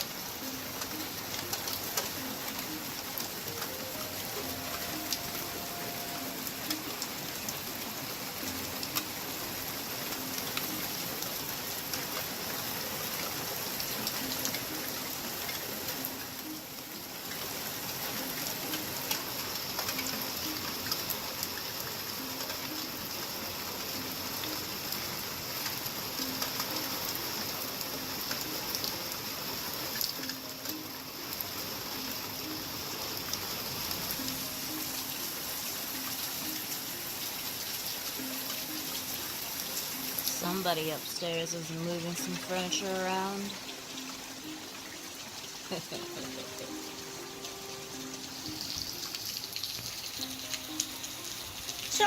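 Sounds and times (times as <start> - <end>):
heavy rain falling: 0.0 - 52.0
water drips ticking: 0.0 - 52.0.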